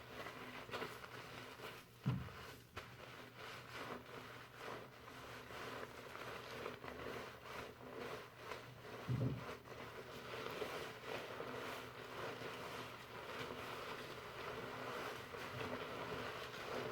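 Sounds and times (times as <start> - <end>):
shampoo lather rustling in hair: 0.0 - 16.9.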